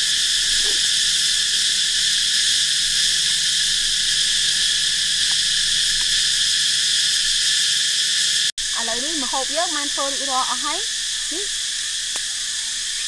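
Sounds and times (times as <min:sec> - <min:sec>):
insects shrilling: 0:00.0 - 0:13.0.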